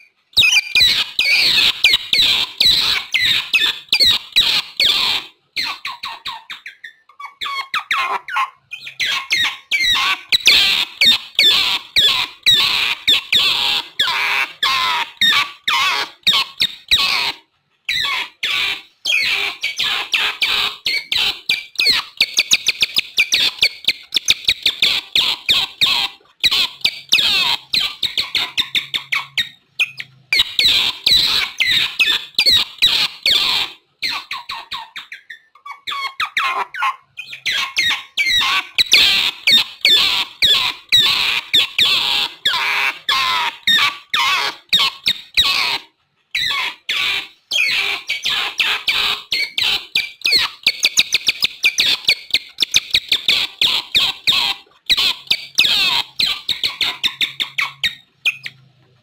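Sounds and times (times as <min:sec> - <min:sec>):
otters chirping and squeaking: 0:00.0 - 0:59.0.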